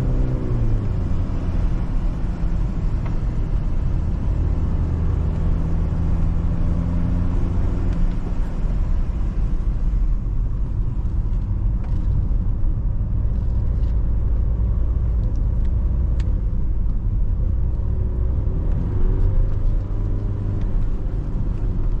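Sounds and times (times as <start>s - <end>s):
diesel car engine droning: 0.0s - 22.0s
road noise: 0.0s - 22.0s.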